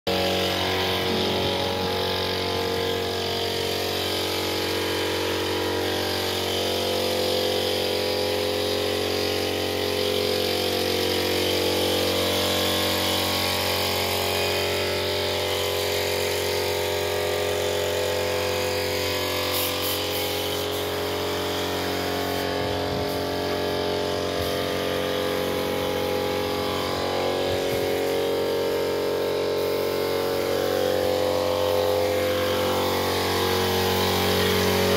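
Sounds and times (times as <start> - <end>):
engine humming steadily: 0.1 - 34.9.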